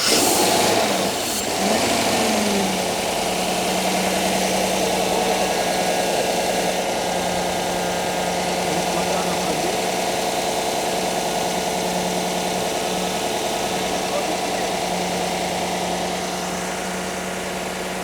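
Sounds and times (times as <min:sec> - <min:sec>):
pickup engine revving and idling: 0:00.0 - 0:18.0.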